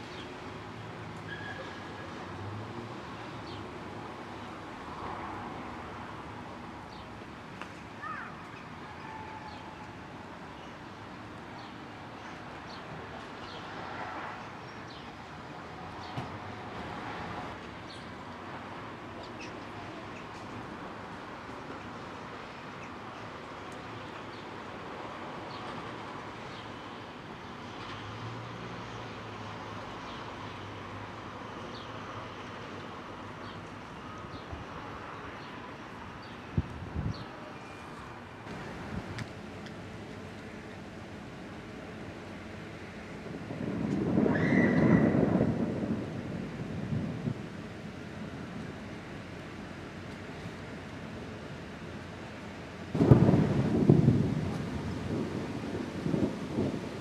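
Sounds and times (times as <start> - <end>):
distant city noise: 0.0 - 57.0.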